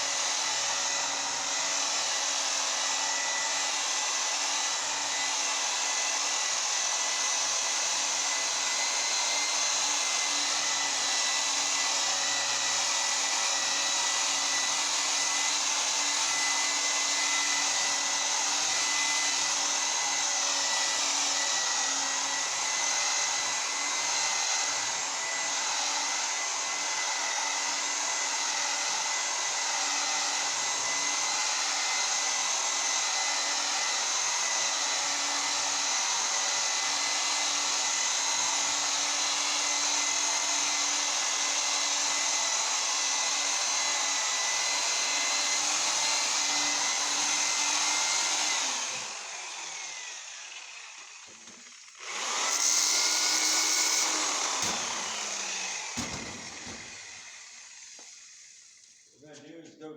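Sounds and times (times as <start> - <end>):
electric rotary buffer running: 0.0 - 59.0.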